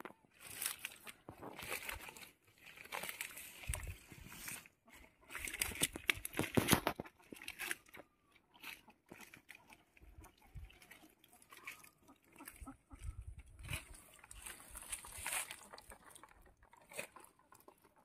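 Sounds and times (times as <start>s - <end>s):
wet plants crunching and rustling: 0.0s - 18.0s.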